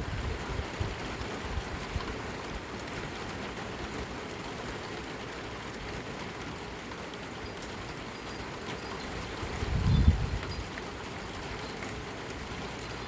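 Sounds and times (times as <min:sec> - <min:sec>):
heavy rain falling: 0:00.0 - 0:13.0
ticks of raindrops: 0:00.0 - 0:13.0.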